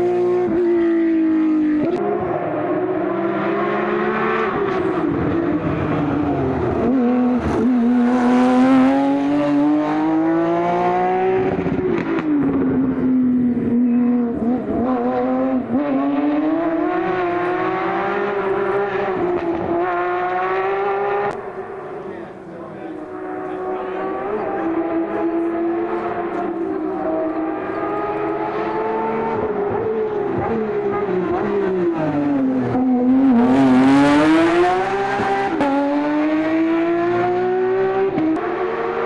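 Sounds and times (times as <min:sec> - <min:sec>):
car engine revving through gears: 0:00.0 - 0:22.2, 0:22.8 - 0:39.0.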